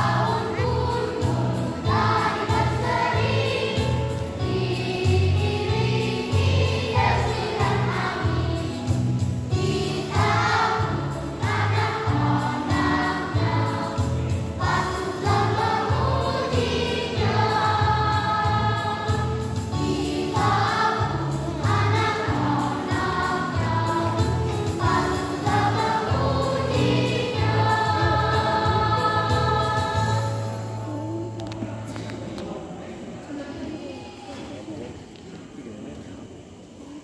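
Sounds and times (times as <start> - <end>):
children's choir singing: 0.0 - 30.9.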